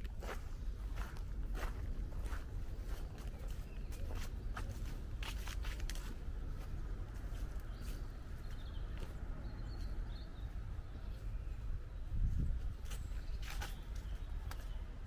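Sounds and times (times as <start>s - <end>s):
steady low rumble: 0.0s - 13.4s
footsteps of person walking: 0.0s - 14.9s.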